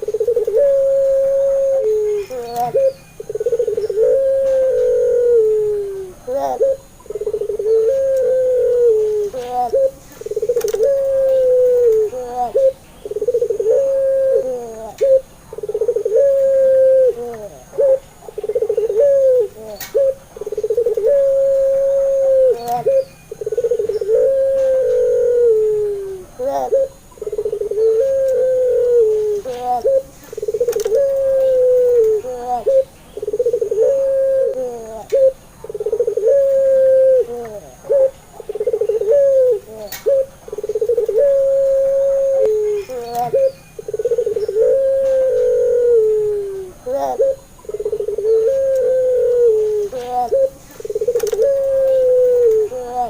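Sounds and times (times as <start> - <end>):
dove cooing: 0.0 - 53.0
small birds chirping: 0.0 - 53.0.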